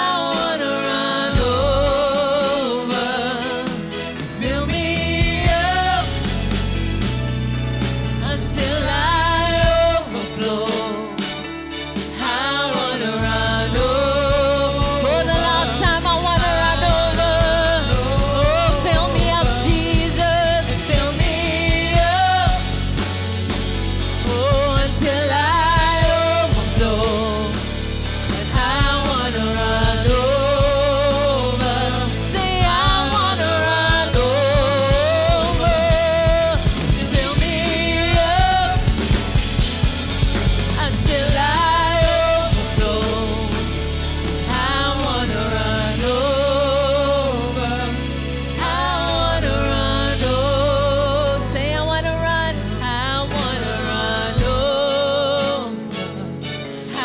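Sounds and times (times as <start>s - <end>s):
steady bass: 0.0s - 55.6s
drum kit: 0.0s - 57.0s
person singing: 0.0s - 57.0s.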